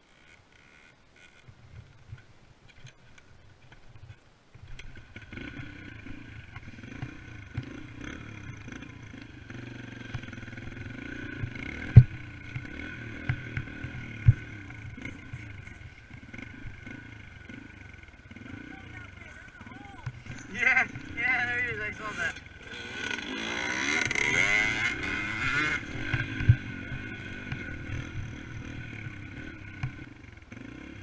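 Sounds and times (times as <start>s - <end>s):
dirt bike engine: 0.0s - 31.0s.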